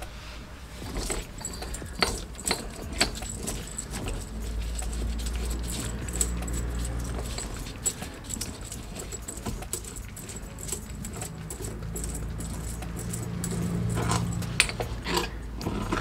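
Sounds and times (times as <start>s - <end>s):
metal tools clinking on steel: 0.7s - 16.0s.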